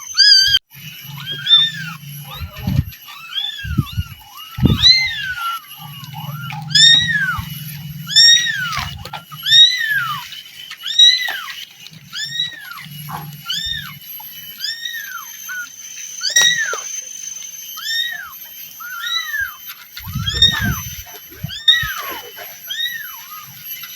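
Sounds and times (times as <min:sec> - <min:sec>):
kitten meowing: 0:00.0 - 0:17.0, 0:17.8 - 0:23.6.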